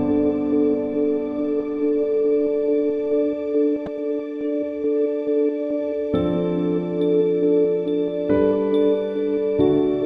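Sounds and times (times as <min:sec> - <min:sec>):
music of long held chords: 0:00.0 - 0:10.0.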